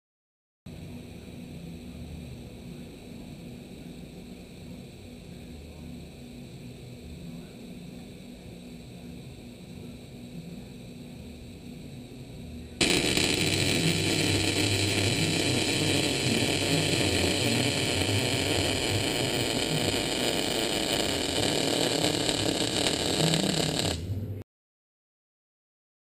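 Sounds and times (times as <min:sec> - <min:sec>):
faint low hum: 0:00.7 - 0:24.4.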